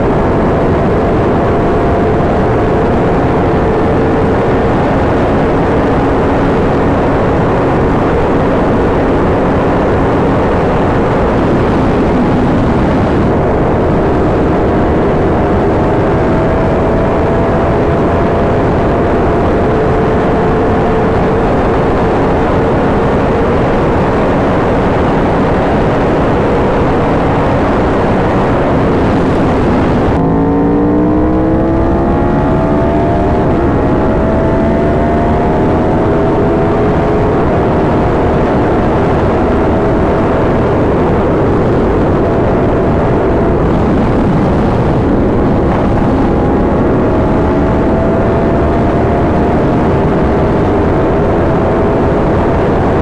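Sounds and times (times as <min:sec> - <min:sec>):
motorcycle engine: 0:00.0 - 0:53.0
wind noise: 0:00.0 - 0:53.0.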